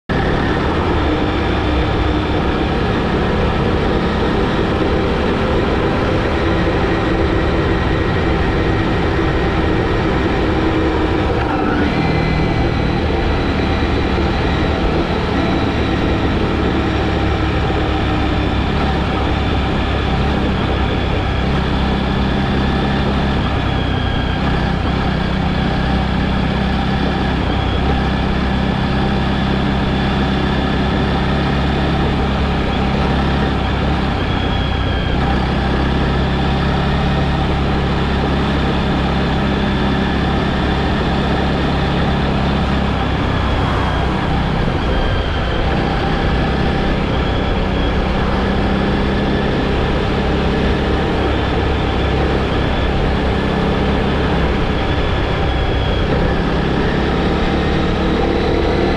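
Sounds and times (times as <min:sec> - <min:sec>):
road noise: 0:00.0 - 0:58.9
vehicle engine drone: 0:00.0 - 0:58.9.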